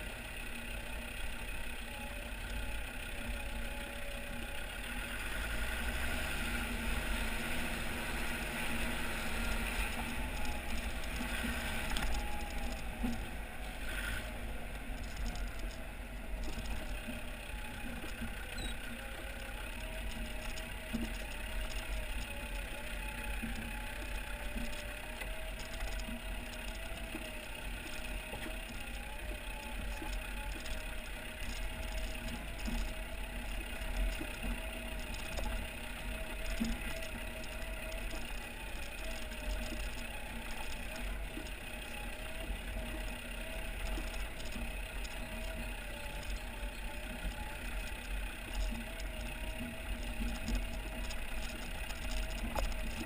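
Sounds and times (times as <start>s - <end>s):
diesel engine at low revs: 0.0s - 53.0s.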